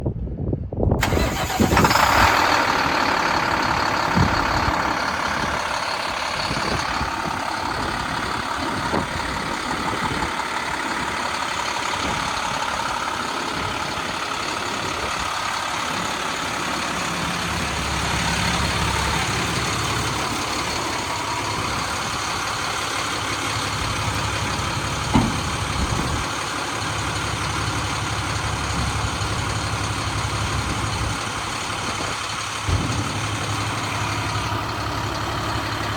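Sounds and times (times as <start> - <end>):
diesel truck engine starting: 0.8 - 35.9
diesel truck engine idling: 0.9 - 35.9
engine knocks: 1.0 - 35.9.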